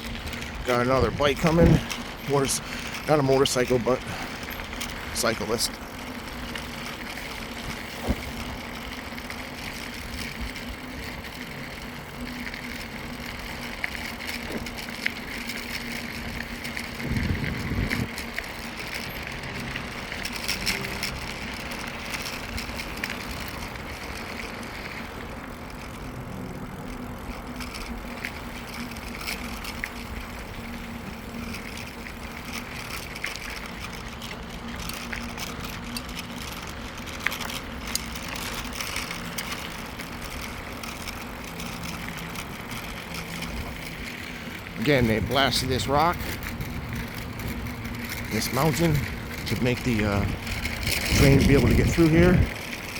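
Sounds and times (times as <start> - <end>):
bicycle tyres rolling: 0.0 - 52.9
sharp clicks and rattles: 0.0 - 52.9.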